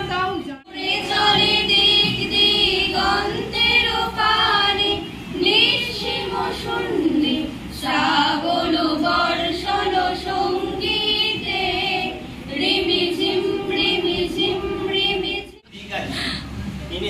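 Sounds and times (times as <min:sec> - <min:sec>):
women singing in unison: 0:00.0 - 0:15.6.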